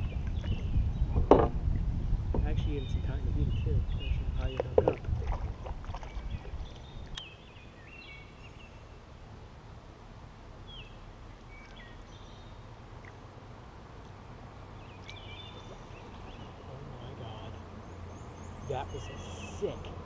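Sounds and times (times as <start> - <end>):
birds chirping: 0.0 - 9.3, 10.5 - 20.0
low steady rumble: 0.0 - 20.0.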